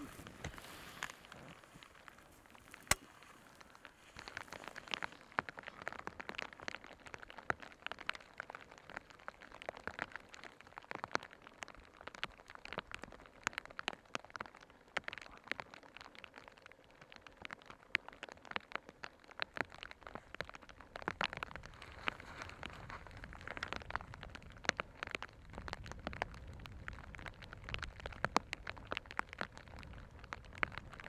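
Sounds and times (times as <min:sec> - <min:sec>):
raindrops tapping: 0:00.0 - 0:31.0.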